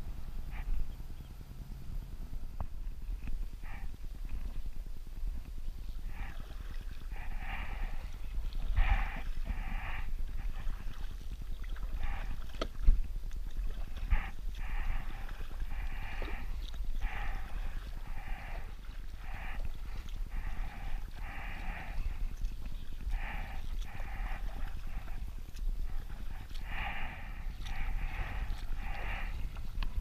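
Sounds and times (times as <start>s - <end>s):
kayak paddle strokes in water: 0.0s - 30.0s
wind rumble on microphone: 0.0s - 30.0s.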